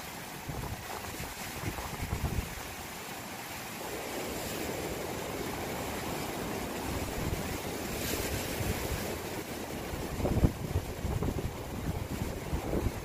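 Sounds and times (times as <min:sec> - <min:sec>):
waves washing against rocks: 0:00.0 - 0:13.0
wind rumble on microphone: 0:00.4 - 0:02.8, 0:03.8 - 0:13.0.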